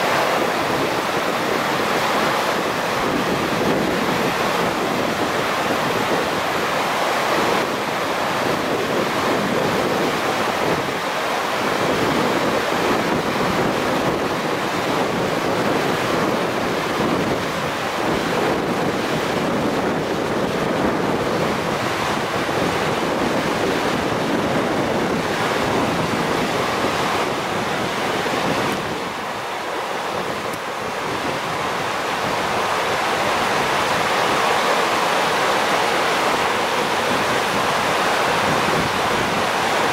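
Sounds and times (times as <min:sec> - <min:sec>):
flooded river rushing: 0:00.0 - 0:39.9
wind buffeting microphone: 0:00.0 - 0:39.9.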